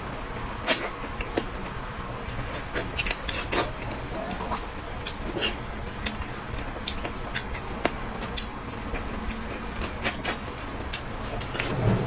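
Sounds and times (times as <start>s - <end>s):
person chewing food: 2.3s - 12.0s.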